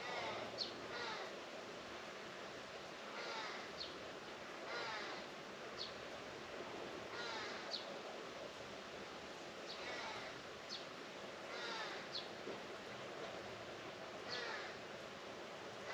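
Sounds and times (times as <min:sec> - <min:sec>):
steady background hiss: 0:00.0 - 0:15.9.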